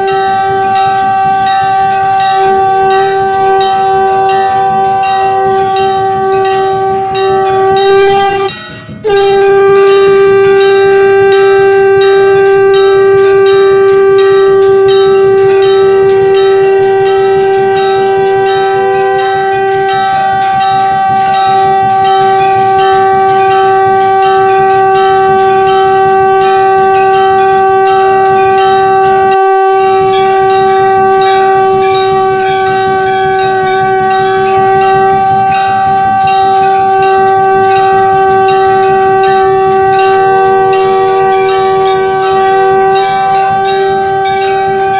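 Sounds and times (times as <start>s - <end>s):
bells ringing rapidly: 0.0s - 44.9s
conch shell trumpet note: 0.0s - 44.9s.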